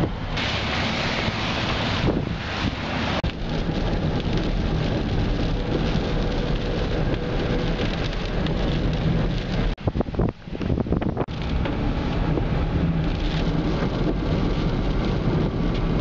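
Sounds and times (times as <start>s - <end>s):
low car rumble: 0.0s - 16.0s
rain: 0.0s - 16.0s
tyres hissing on wet road: 0.0s - 16.0s.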